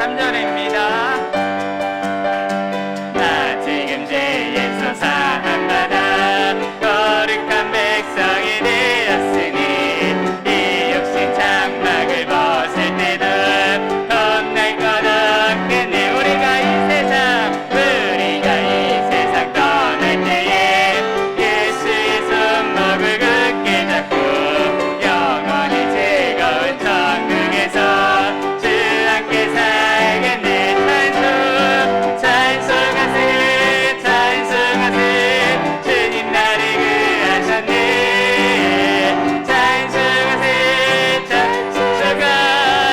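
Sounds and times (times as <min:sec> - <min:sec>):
piano accompaniment: 0:00.0 - 0:42.9
singers performing worship song: 0:00.0 - 0:42.9.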